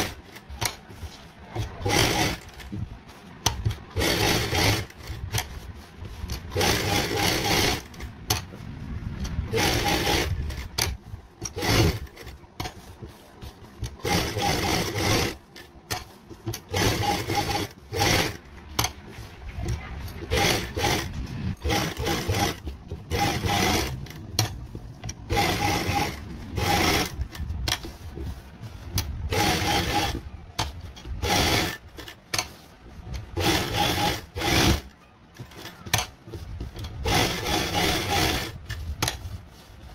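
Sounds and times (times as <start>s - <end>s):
sewing machine stitching: 0.0s - 8.6s, 9.2s - 28.0s, 28.9s - 39.9s.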